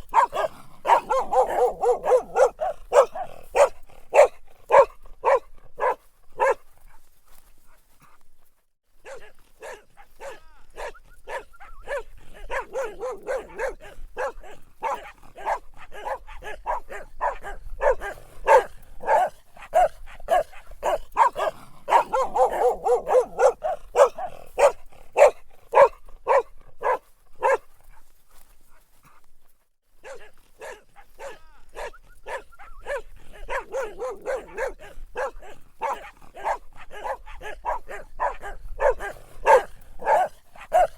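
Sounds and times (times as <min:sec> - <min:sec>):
dog barking: 0:00.0 - 0:07.1, 0:09.0 - 0:28.1, 0:30.0 - 0:40.9.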